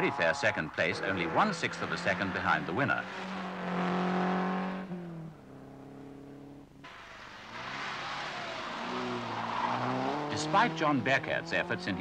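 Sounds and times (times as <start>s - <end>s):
sports car engine revving: 0.8s - 6.8s, 7.6s - 12.0s.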